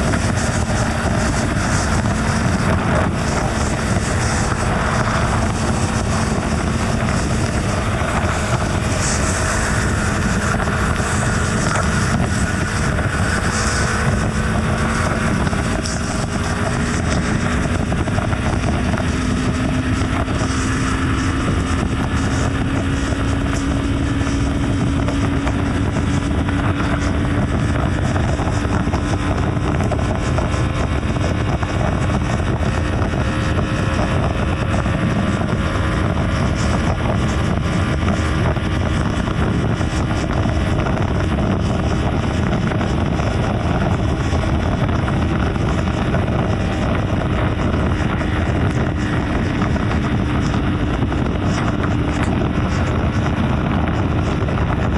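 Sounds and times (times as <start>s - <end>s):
motorcycle engine cruising: 0.0s - 54.9s
road noise: 0.0s - 54.9s
wind rush: 0.0s - 54.9s.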